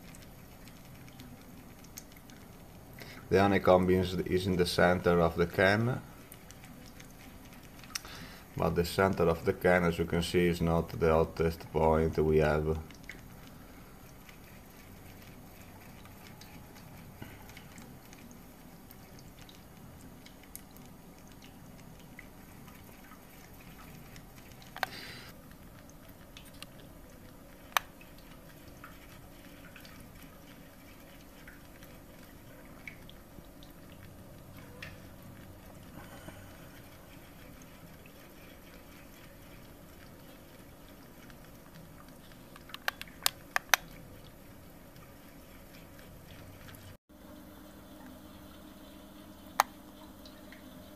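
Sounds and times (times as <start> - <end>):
liquid bubbling and hiss: 0.0 - 47.0.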